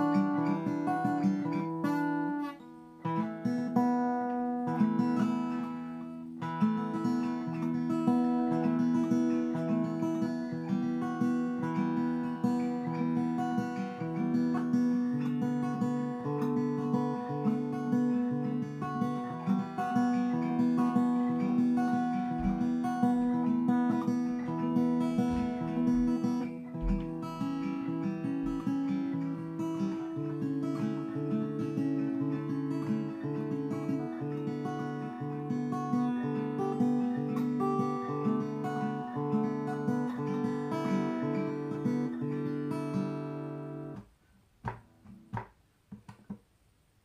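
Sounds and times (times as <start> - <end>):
acoustic guitar strummed slowly: 0.0 - 46.4.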